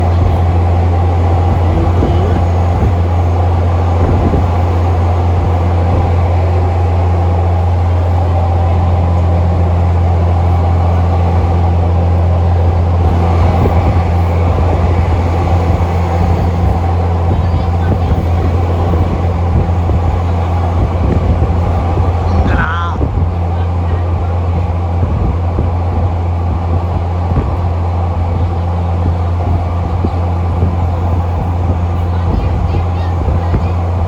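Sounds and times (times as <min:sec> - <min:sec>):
large engine idling: 0:00.0 - 0:34.0.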